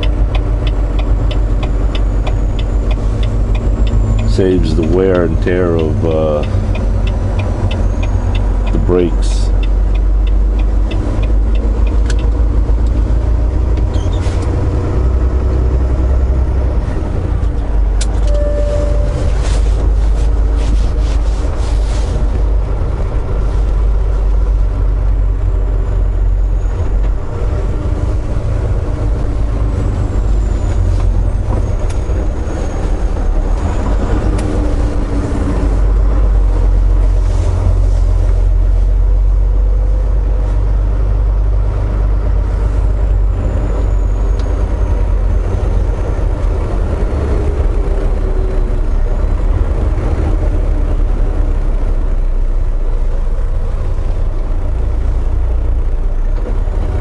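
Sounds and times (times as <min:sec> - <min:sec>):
truck engine rumble from cab: 0:00.0 - 0:57.0.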